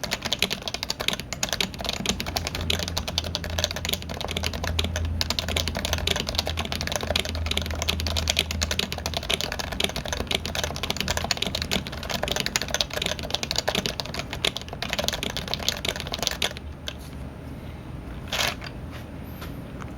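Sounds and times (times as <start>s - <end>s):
fast keyboard typing: 0.0s - 17.0s.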